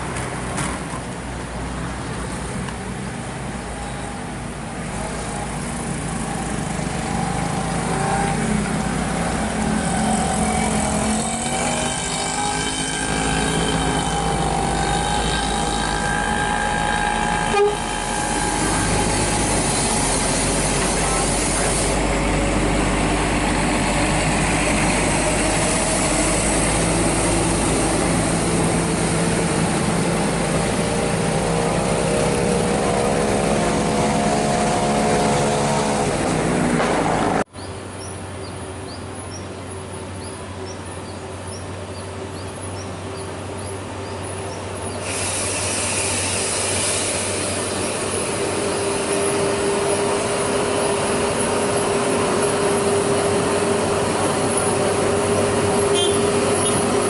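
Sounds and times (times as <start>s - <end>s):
heavy diesel engines under load: 0.0s - 57.0s.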